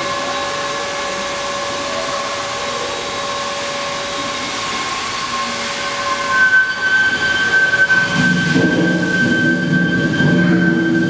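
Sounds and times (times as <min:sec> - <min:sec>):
higher steady tone: 0:00.0 - 0:11.0
steam engine hissing: 0:00.0 - 0:11.0.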